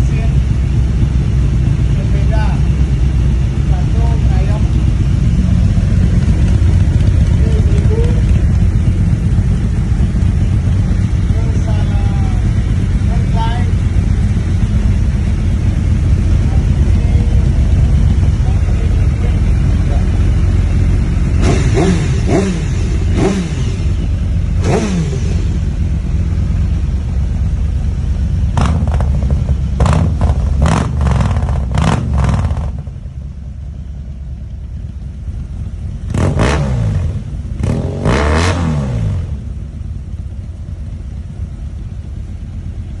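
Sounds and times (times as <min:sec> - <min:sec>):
motorcycle engine revving: 0:00.0 - 0:33.3, 0:34.7 - 0:43.0.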